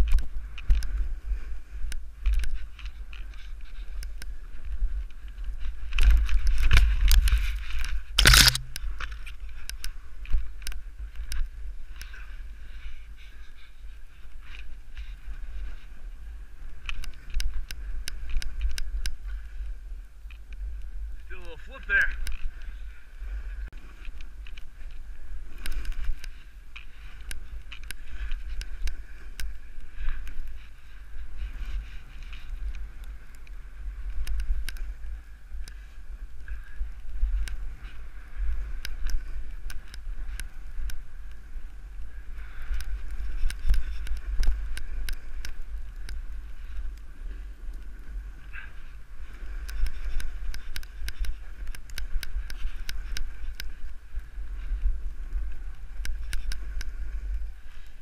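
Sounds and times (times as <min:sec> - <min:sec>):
skis sliding on snow: 0:00.0 - 0:58.0
wind rumbling on microphone: 0:00.0 - 0:58.0.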